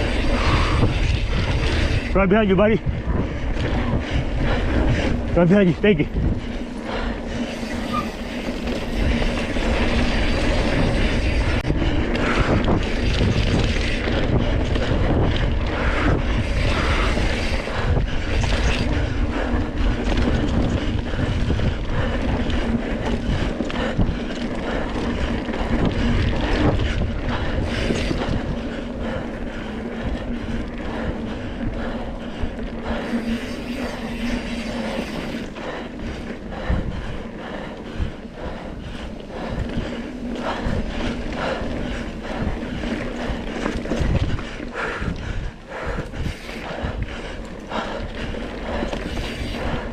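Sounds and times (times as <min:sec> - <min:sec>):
bike knocking and rattling: 0:00.0 - 0:49.9
wind on microphone: 0:00.0 - 0:49.9.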